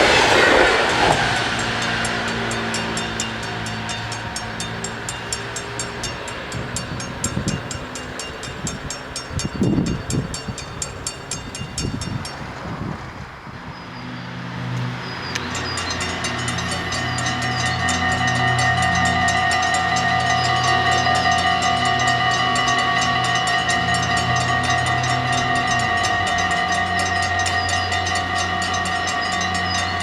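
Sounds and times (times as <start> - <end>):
crossing bells ringing rapidly: 0.0 - 12.6, 15.4 - 30.0
train wheels on rails: 0.0 - 13.1, 14.8 - 30.0.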